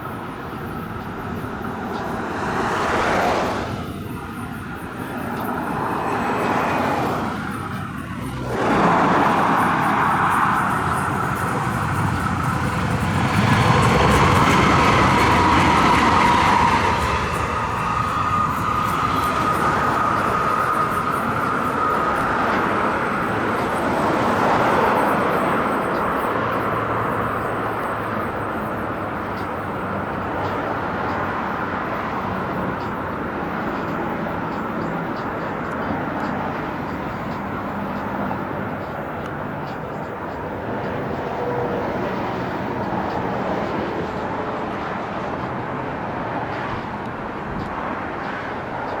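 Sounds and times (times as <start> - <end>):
light rail train rumble and whine: 0.0 - 49.0.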